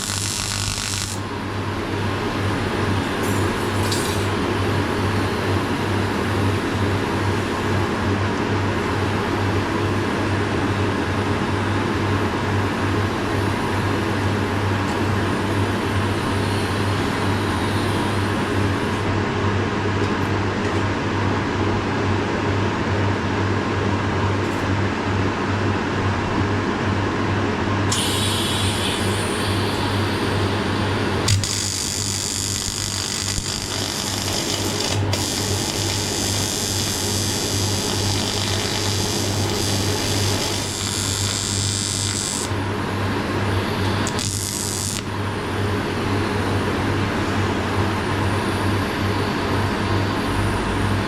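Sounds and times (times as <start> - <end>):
low electrical buzz: 0.0 - 19.2, 27.9 - 51.0
workshop machinery running: 0.0 - 51.0.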